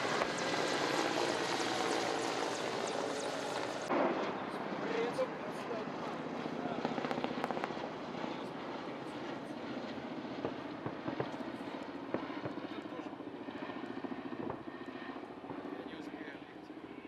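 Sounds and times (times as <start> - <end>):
helicopter flying past: 0.0 - 17.0.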